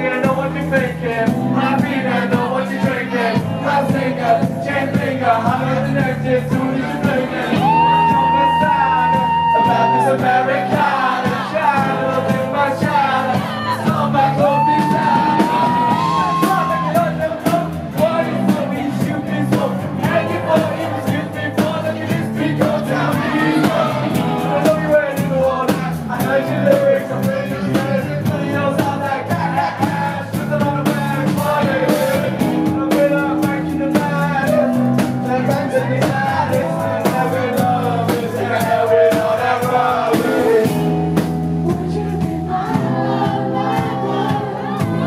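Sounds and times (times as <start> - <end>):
live band playing: 0.0 - 45.0
person singing: 0.0 - 45.0.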